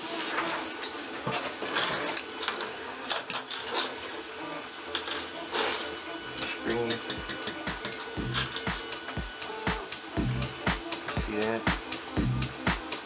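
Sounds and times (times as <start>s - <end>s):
faint mechanical whir: 0.0s - 13.0s.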